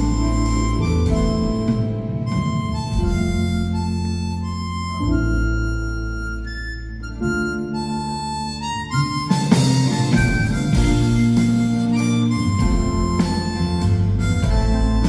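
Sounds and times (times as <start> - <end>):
harmonica long held notes: 0.0 - 15.0
low musical accompaniment: 0.0 - 15.0.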